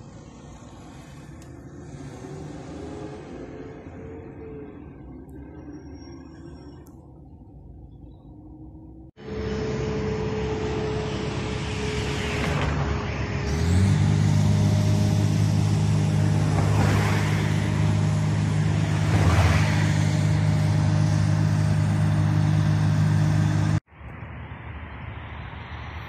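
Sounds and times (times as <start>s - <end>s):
diesel engine running: 0.0s - 23.9s
vehicles passing: 0.0s - 26.0s.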